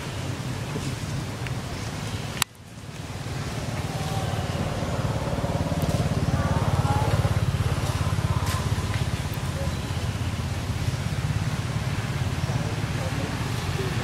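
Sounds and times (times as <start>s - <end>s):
low pulsing motor rumble: 2.7s - 14.0s.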